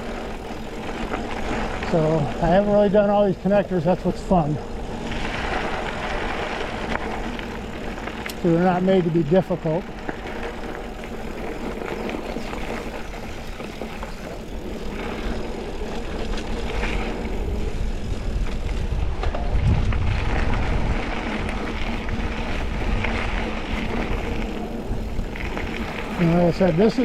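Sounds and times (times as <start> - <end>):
bike tyres rolling on dirt: 0.0 - 27.0
wind buffeting microphone: 0.0 - 27.0.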